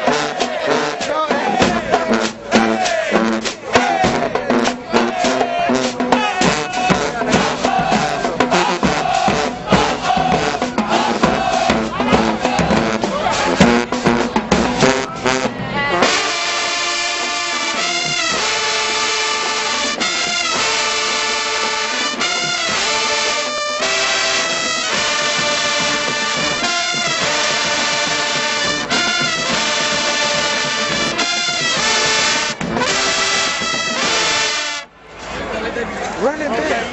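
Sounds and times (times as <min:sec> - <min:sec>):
brass band playing held chords: 0:00.0 - 0:35.0.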